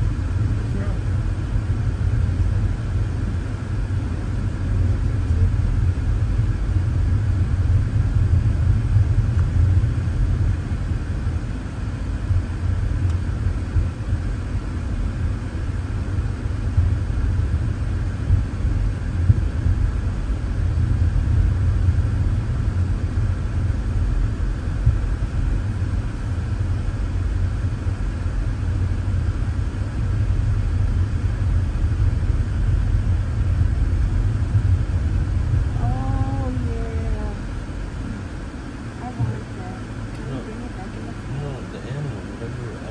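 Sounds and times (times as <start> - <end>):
car engine and tyre rumble: 0.0 - 42.9.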